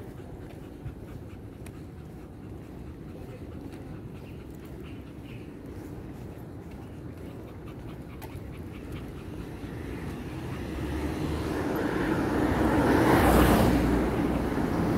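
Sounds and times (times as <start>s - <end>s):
puppy panting: 0.0s - 14.9s.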